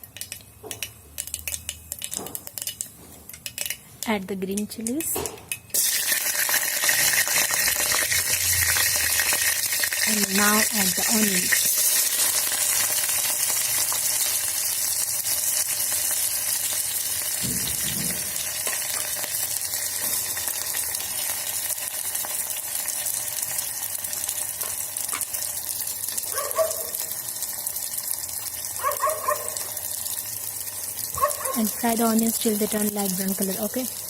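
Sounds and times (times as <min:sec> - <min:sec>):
onions sizzling in hot oil: 0:00.0 - 0:03.8, 0:04.4 - 0:34.0.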